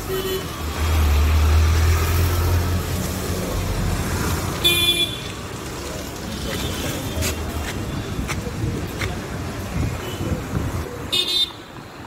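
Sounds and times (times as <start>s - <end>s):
vehicle engine rumbling: 0.0s - 11.1s
traffic on wet street: 0.0s - 12.0s.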